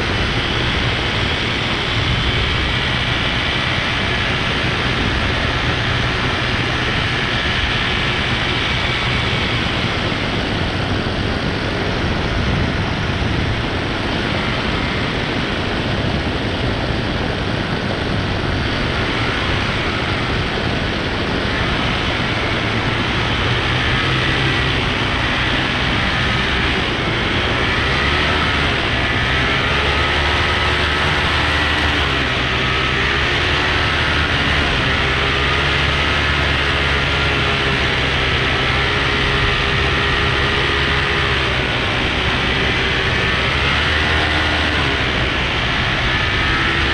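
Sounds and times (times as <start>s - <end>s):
paramotor engine drone: 0.0s - 46.9s.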